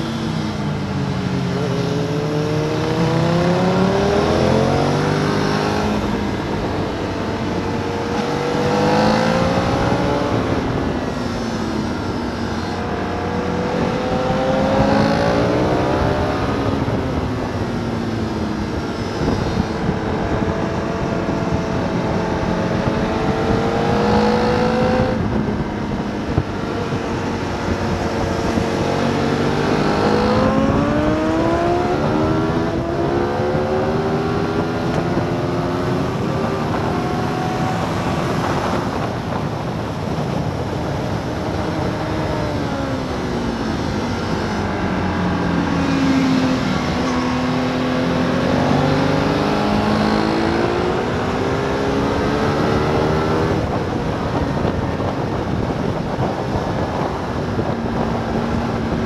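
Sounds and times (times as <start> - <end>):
motorcycle engine at high revs: 0.0 - 59.0
wind rush: 0.0 - 59.0.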